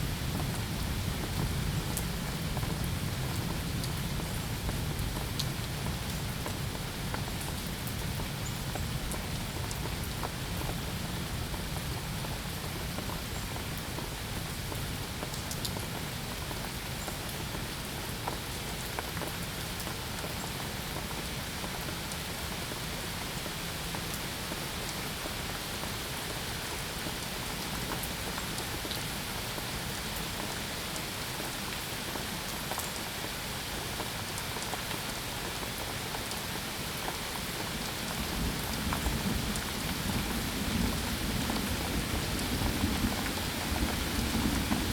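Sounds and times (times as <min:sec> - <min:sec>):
rain pattering on a surface: 0:00.0 - 0:44.9.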